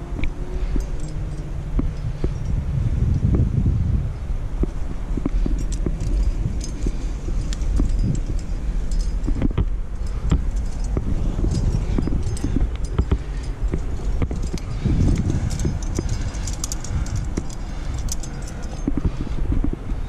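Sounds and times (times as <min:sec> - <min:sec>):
climbing gear clinking: 0:00.0 - 0:03.5, 0:04.6 - 0:20.0
wind on microphone: 0:00.0 - 0:20.0.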